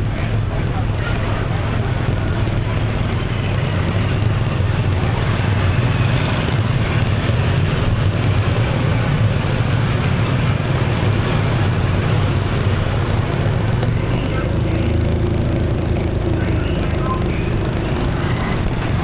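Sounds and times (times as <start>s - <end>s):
motorbike engine: 0.0s - 19.0s
street traffic: 0.0s - 19.0s.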